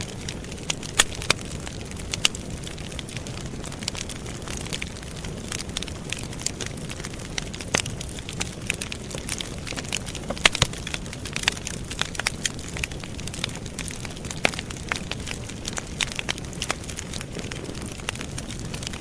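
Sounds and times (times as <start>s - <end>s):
campfire crackling and popping: 0.0s - 19.0s
low rush of flame: 0.0s - 19.0s.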